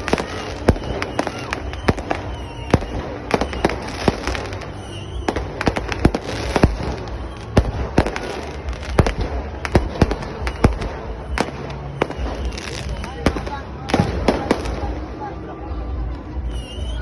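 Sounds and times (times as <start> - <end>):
fireworks bangs: 0.0 - 15.2
background noise: 0.0 - 17.0.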